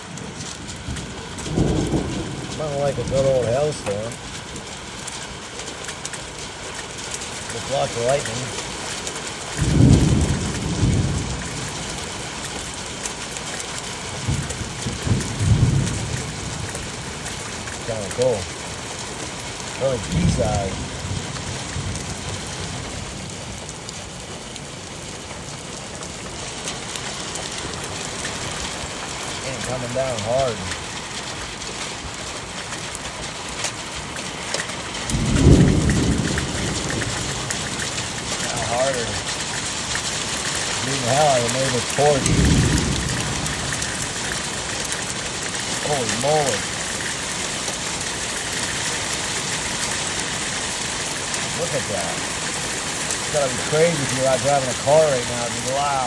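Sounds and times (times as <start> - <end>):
hail and rain pelting down: 0.0 - 56.0
thunder rumble: 0.0 - 56.0.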